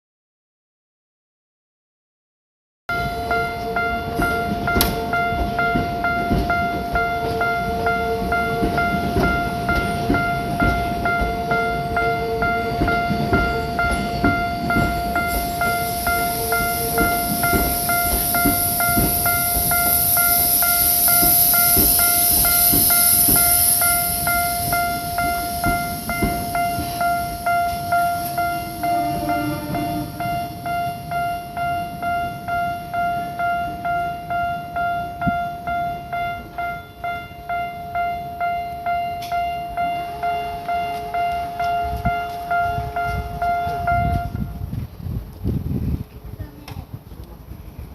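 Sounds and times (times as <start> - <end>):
railroad crossing bell clanging: 2.9 - 44.7
train passing: 2.9 - 47.9.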